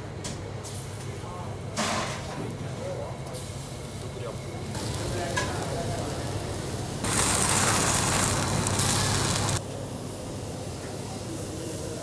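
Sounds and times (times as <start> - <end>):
chicken sizzling on a grill: 1.8 - 12.0.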